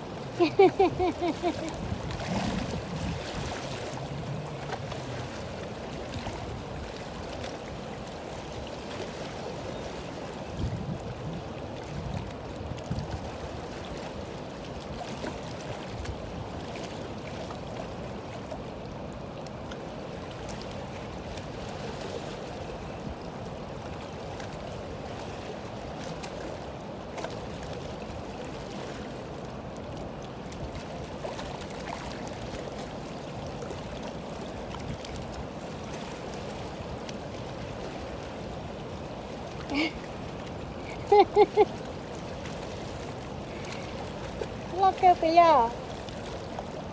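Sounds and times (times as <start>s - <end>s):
river water rushing: 0.0s - 46.9s.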